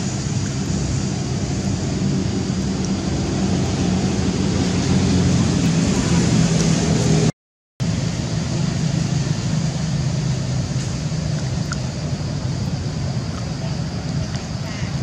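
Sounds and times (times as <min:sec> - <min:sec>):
low rumbling outdoor noise: 0:00.0 - 0:15.0.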